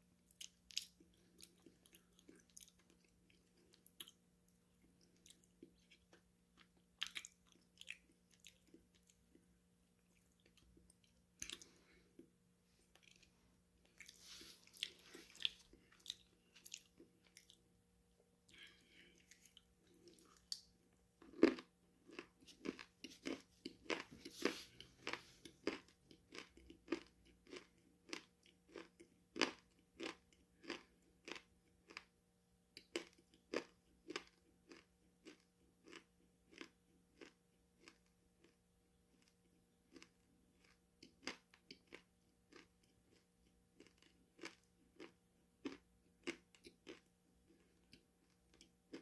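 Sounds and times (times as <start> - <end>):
crunchy food chewing: 0.3 - 12.3, 12.9 - 17.6, 18.5 - 32.1, 32.8 - 49.0.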